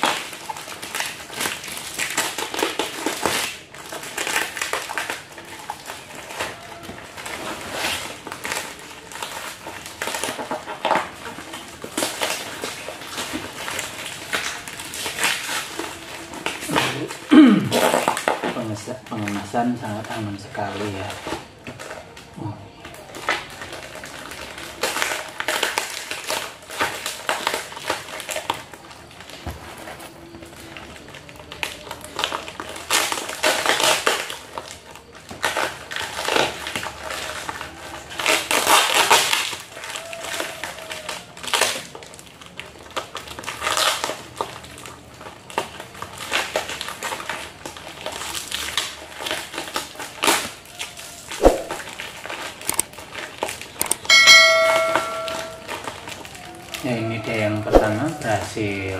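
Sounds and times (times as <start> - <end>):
plastic wrapping crinkling and tearing: 0.0 - 58.9.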